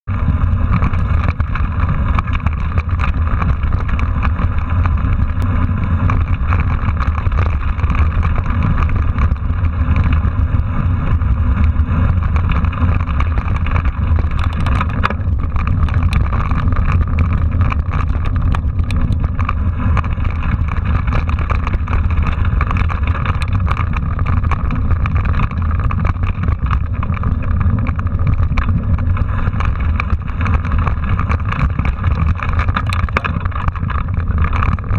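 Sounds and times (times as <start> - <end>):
wind and ride vibration rumble: 0.0 - 34.9
bike and camera mount rattling: 0.1 - 34.9.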